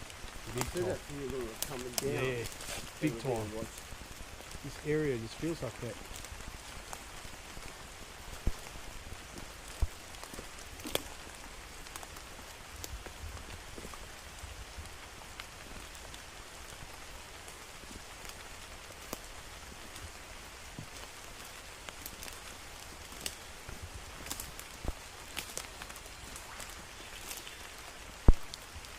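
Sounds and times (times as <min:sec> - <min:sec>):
sharp taps of raindrops: 0:00.0 - 0:28.9
steady rain hiss: 0:00.0 - 0:28.9.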